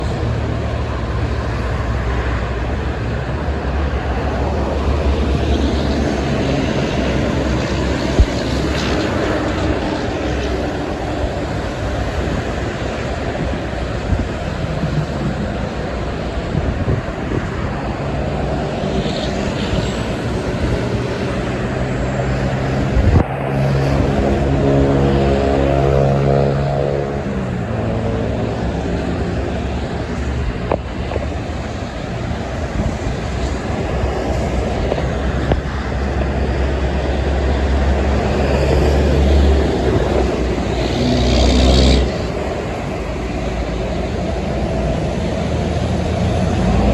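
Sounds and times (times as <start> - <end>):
highway traffic rumble: 0.0 - 46.9
steady engine drone: 0.0 - 46.9
trucks passing: 0.0 - 46.9.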